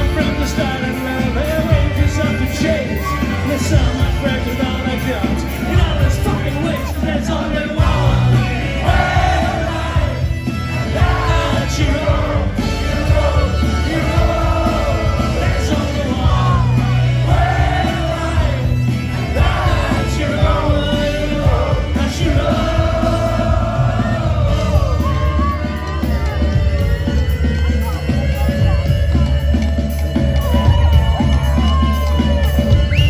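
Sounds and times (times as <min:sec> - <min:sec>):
person singing lead vocal: 0:00.0 - 0:27.2
live folk-rock band playing: 0:00.0 - 0:33.0.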